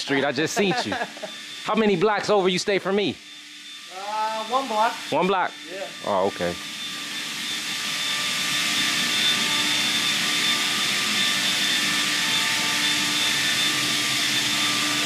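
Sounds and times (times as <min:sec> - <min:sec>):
motor whine with rushing hiss: 0:00.0 - 0:15.0.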